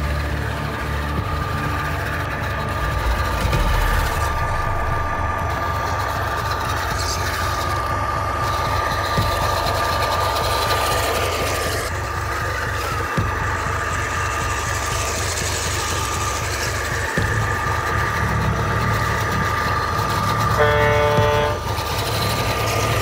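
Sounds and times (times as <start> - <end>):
electric motors whining: 0.0 - 23.0.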